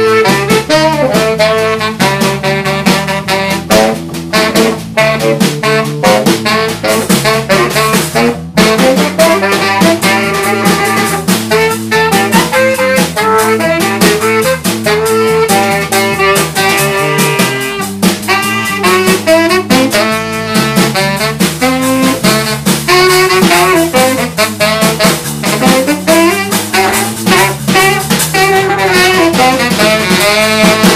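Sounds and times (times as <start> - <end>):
jazz band playing: 0.0 - 30.9.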